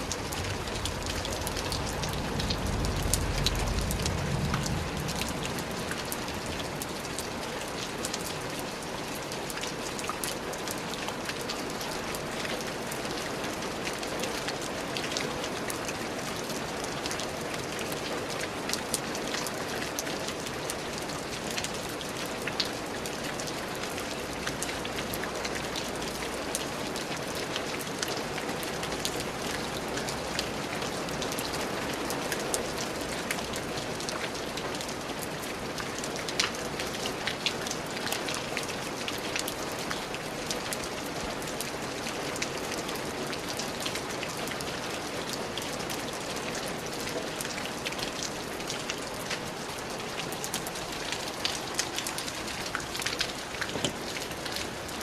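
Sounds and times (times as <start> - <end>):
raindrop ticks and splats: 0.0 - 55.0
steady rain hiss: 0.0 - 55.0.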